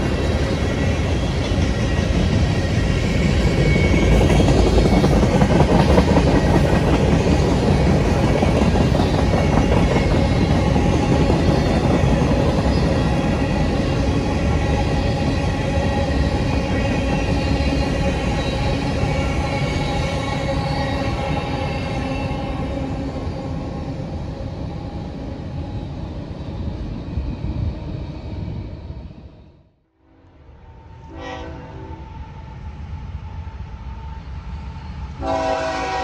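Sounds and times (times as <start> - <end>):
train wheels rumbling on rails: 0.0 - 29.2.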